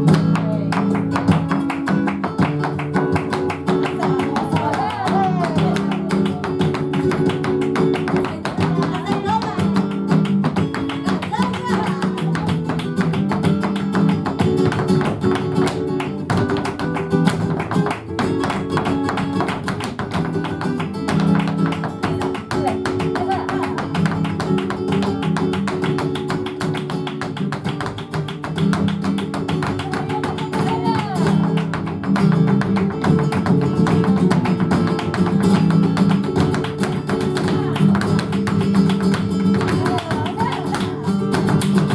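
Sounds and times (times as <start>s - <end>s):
dancer's feet tapping: 0.0s - 41.9s
flamenco guitar playing: 0.0s - 41.9s.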